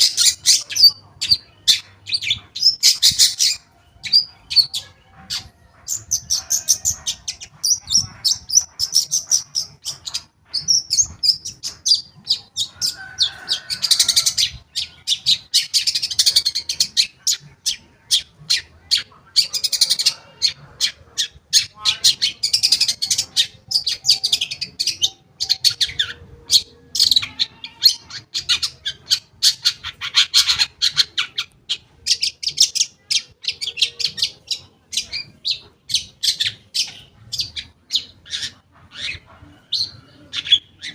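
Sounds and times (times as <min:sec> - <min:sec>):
shrike chattering song: 0:00.0 - 0:40.9.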